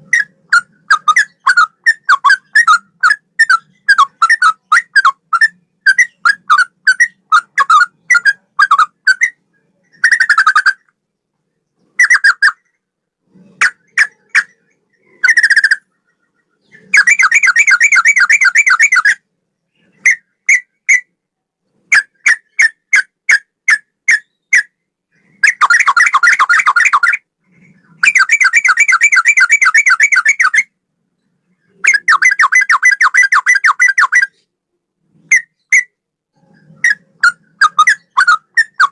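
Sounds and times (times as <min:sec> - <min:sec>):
bird song whistled notes and trills: 0:00.0 - 0:38.9.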